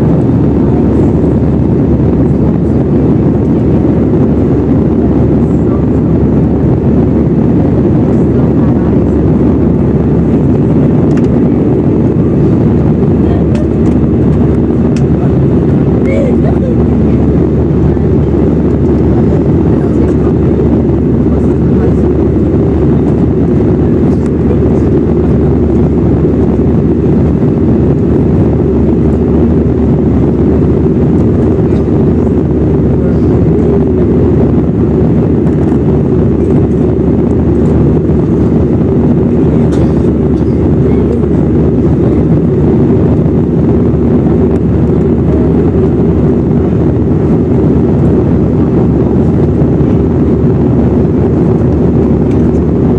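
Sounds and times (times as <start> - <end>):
jet cabin drone: 0.0 - 52.9.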